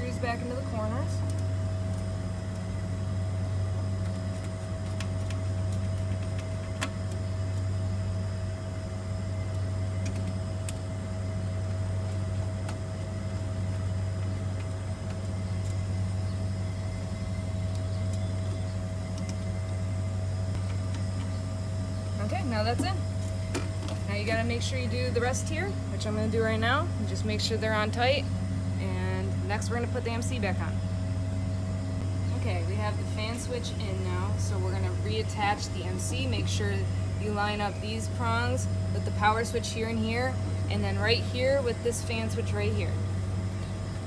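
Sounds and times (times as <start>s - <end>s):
high whine: 0.0s - 44.0s
low machine hum: 0.0s - 44.0s.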